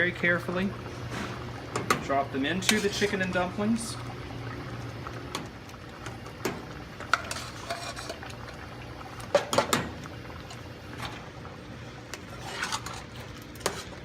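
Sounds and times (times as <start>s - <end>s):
low kitchen background: 0.0s - 14.0s.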